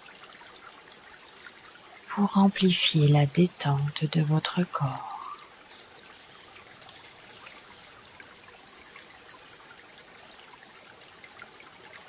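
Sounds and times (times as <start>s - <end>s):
trickling stream: 0.0s - 12.0s.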